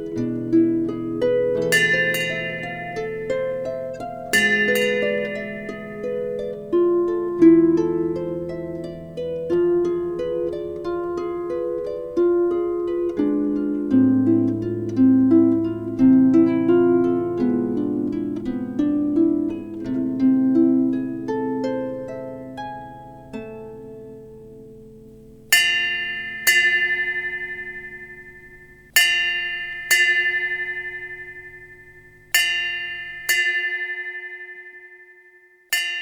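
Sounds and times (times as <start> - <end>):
plucked harp notes: 0.0 - 34.6.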